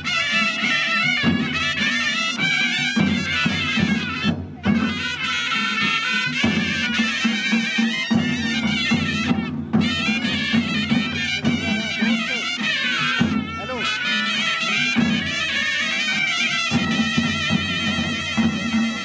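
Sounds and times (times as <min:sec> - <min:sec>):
drums beating: 0:00.0 - 0:19.0
reedy double-reed pipe melody: 0:00.0 - 0:19.0.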